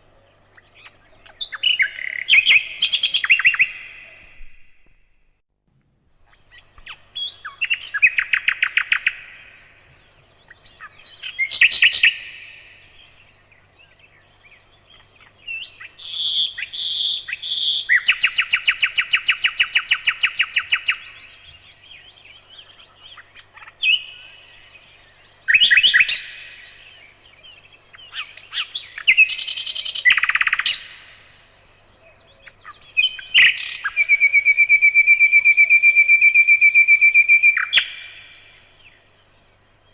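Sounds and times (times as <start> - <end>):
nightingale singing: 0.0 - 5.2, 6.1 - 39.9.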